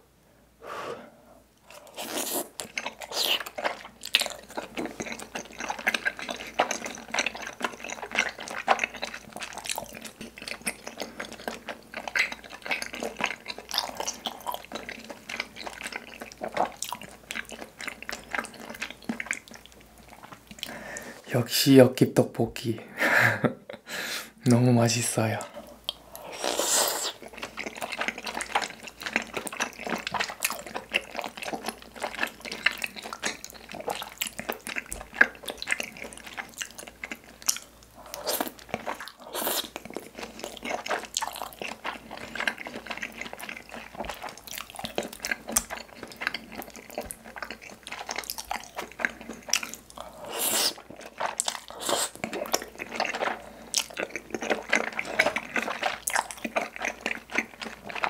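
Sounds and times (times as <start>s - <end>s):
wet chewing and mouth sounds: 1.6s - 21.3s, 24.9s - 58.0s.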